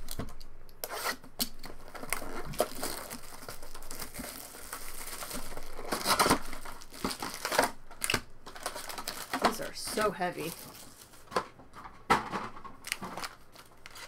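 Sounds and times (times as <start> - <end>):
card pack wrappers crinkling: 1.4 - 11.5, 12.6 - 14.0.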